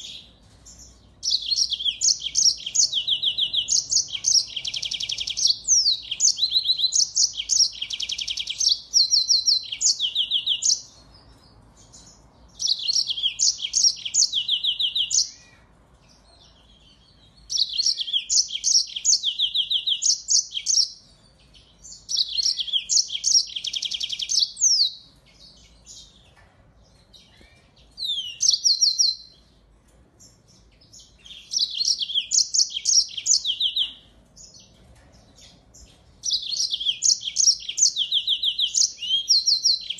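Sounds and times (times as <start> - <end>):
finch singing trills and chirps: 0.0 - 29.6, 30.2 - 39.9.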